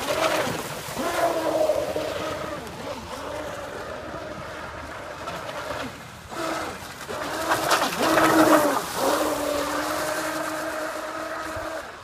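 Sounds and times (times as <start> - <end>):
model boat motor droning: 0.0 - 12.0.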